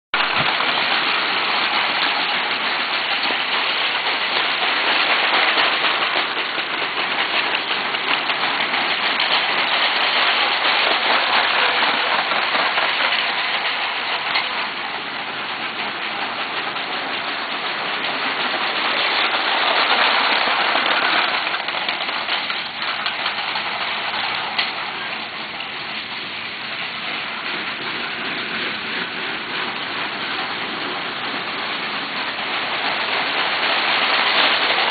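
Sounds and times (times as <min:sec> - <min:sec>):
toy train rattling on track: 0:00.2 - 0:34.9.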